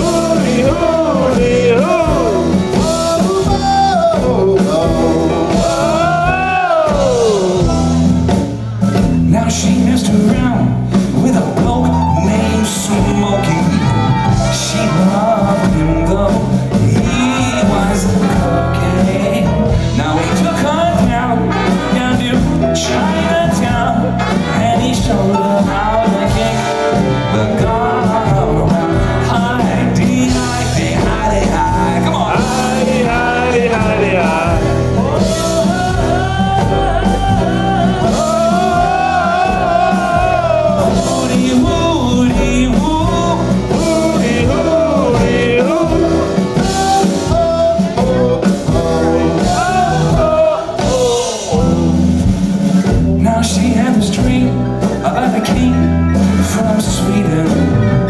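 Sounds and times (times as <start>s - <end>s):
man singing: 0.0s - 58.0s
swing band playing: 0.0s - 58.0s.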